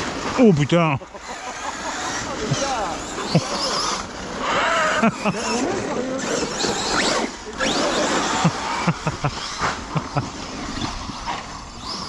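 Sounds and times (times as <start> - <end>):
electric rc truck motors whining: 0.0 - 12.0.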